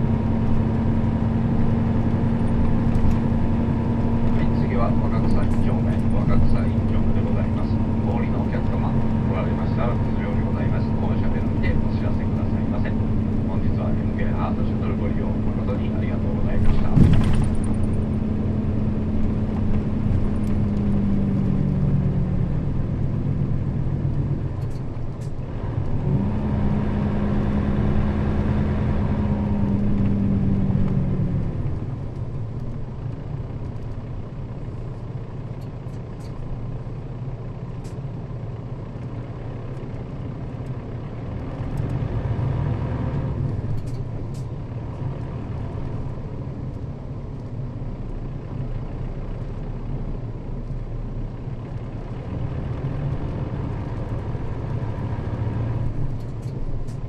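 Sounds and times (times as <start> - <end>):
bus diesel engine droning: 0.0 - 57.0
low rumble of moving bus: 0.0 - 57.0.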